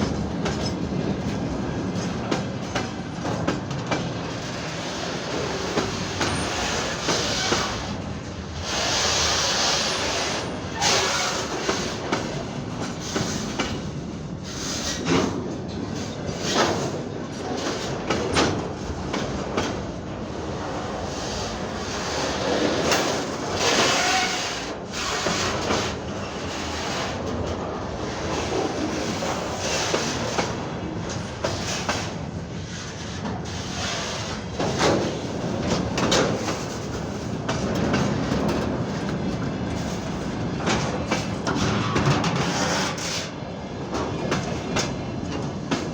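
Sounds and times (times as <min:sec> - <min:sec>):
train rumble: 0:00.0 - 0:45.9
train wheels clacking: 0:00.0 - 0:45.9.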